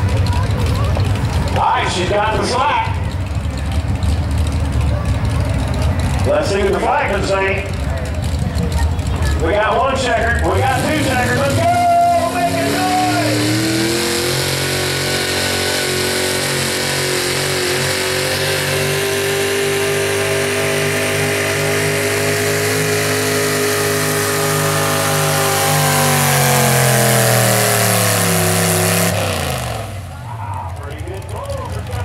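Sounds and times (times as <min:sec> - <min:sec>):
pulling vehicle engine running flat out: 0:00.0 - 0:32.0.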